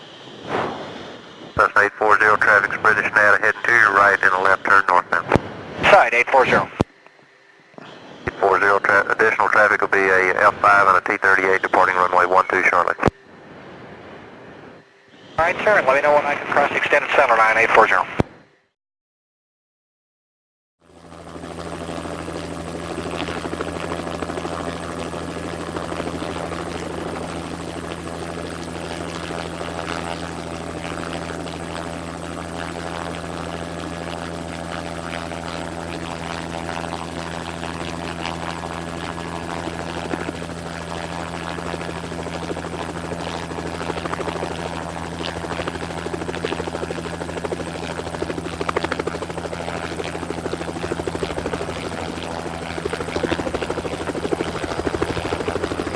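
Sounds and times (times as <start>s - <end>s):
helicopter drone: 0.0s - 18.7s, 20.8s - 55.9s.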